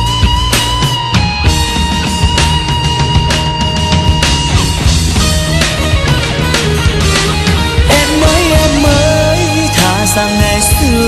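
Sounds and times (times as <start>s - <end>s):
instrumental rock guitar music: 0.0s - 11.0s.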